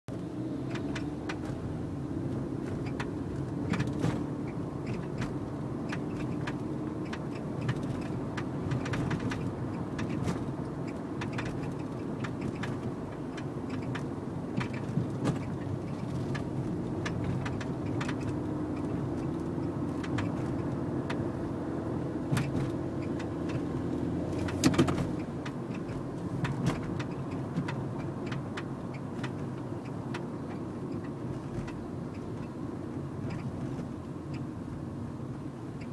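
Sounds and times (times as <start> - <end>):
road hum: 0.0 - 35.9
car engine running: 0.1 - 35.9
suspension clunks and knocks: 0.6 - 21.3, 22.1 - 32.6.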